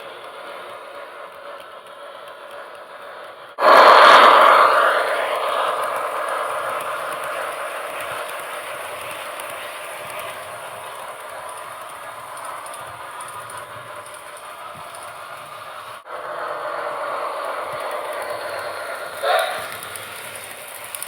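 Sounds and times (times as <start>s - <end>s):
model train whirring on rails: 0.0s - 21.0s.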